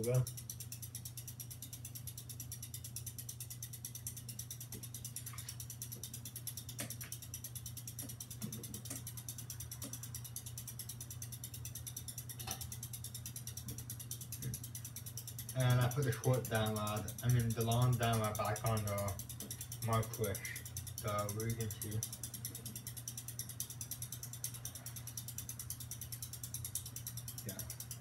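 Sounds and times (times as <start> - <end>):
ceiling fan motor hum: 0.0 - 28.0
fast even ticking: 0.0 - 28.0.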